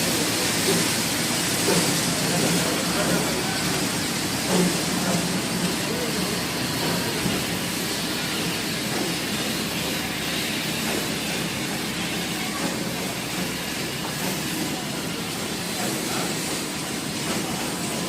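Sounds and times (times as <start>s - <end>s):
train rumbling with hiss: 0.0s - 18.0s.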